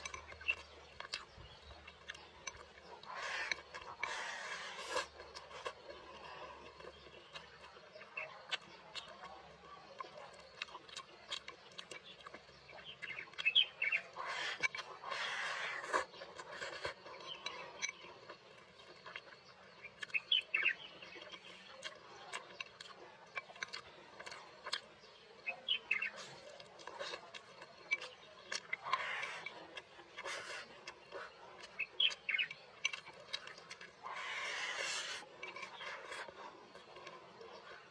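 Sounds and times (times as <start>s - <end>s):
slurping: 0.0s - 37.9s
wet chewing and lip-smacking: 0.0s - 37.9s.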